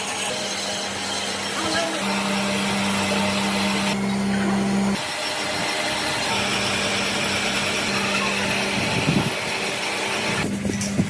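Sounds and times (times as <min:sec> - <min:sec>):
power tool humming: 0:00.0 - 0:11.0.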